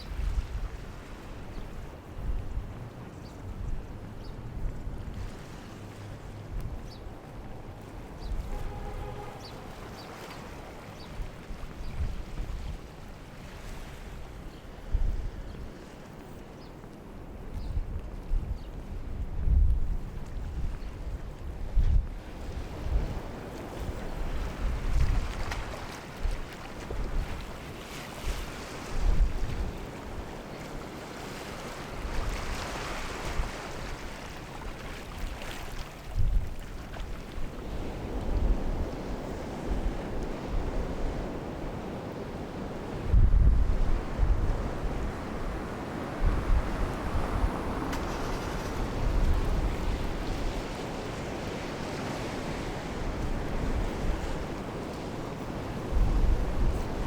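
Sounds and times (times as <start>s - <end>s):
wind buffeting microphone: 0.0s - 16.3s, 17.2s - 57.0s.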